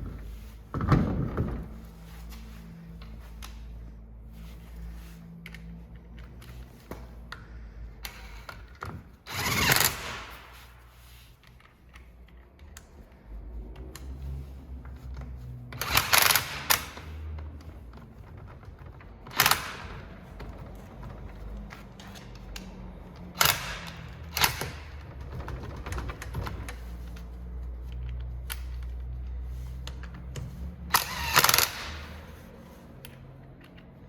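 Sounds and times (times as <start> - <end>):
small clicks and handling noise: 2.0 - 10.5, 11.2 - 34.0.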